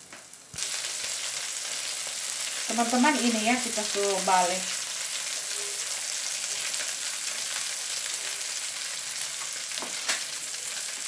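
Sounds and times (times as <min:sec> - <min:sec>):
buns sizzling in a pan: 0:00.0 - 0:11.0.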